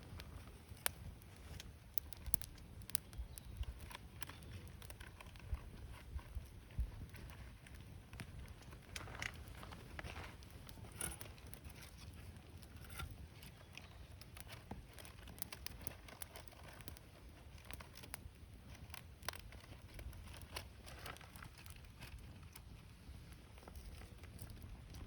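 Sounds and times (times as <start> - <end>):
burning wood popping: 0.0 - 25.0
campfire crackling: 0.0 - 25.0.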